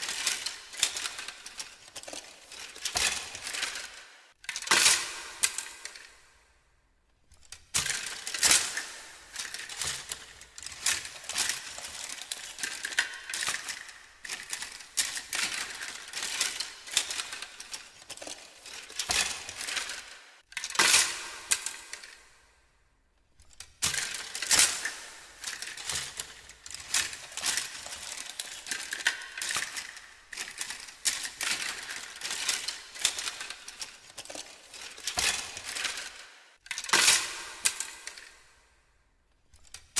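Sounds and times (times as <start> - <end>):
small hard objects clattering: 0.0 - 5.1, 7.8 - 21.2, 23.8 - 38.3.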